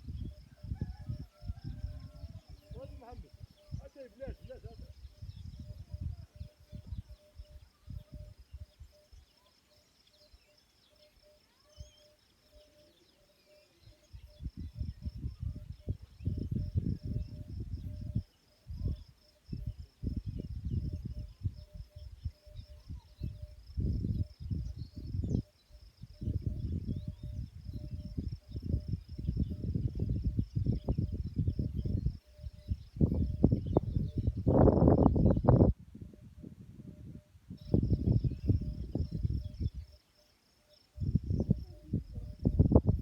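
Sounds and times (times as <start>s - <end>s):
wind buffeting microphone: 0.0s - 9.0s, 14.1s - 40.0s, 41.0s - 43.0s
faint bird chirps: 0.0s - 43.0s
high insect trill: 0.0s - 43.0s.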